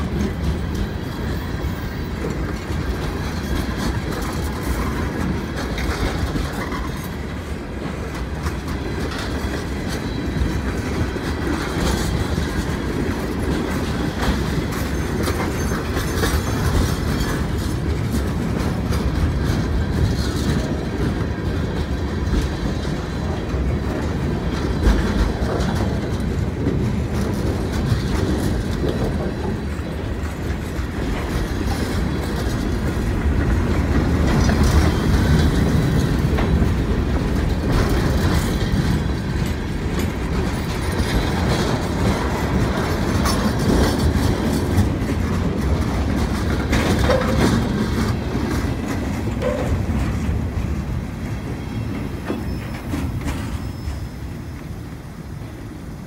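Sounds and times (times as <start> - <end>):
clickety-clack over rail joints: 0.0 - 56.0
steel wheels rumbling on rails: 0.0 - 56.0.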